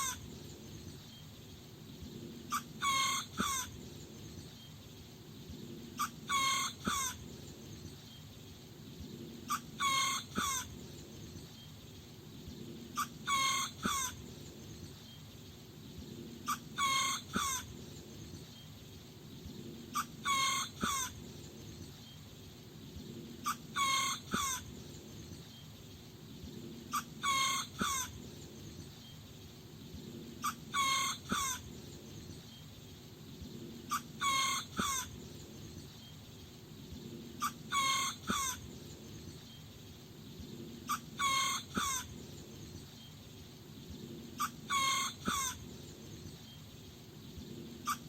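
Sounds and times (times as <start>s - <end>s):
faint low background rumble: 0.0s - 48.0s.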